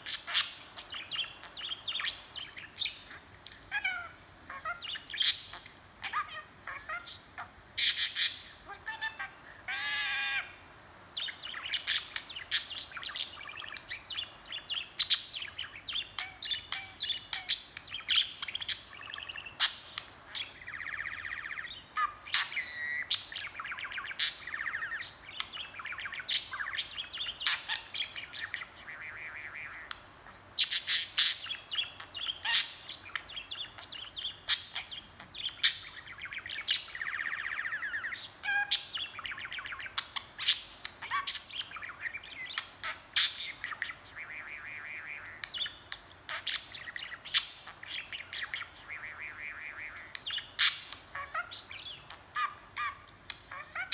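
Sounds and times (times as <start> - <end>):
budgerigar chattering and warbling: 0.0 - 10.6, 11.2 - 30.0, 30.6 - 53.9.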